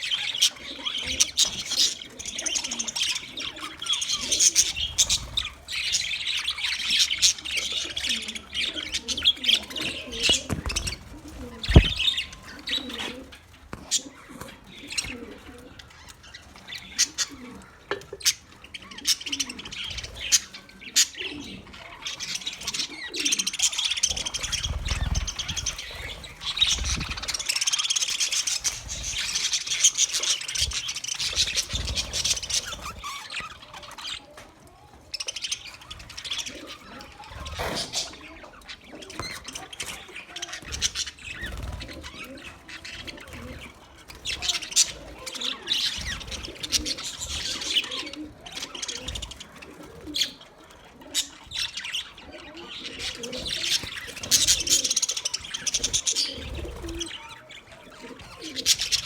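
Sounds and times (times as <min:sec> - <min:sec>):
budgies chattering and chirping: 0:00.0 - 0:59.0.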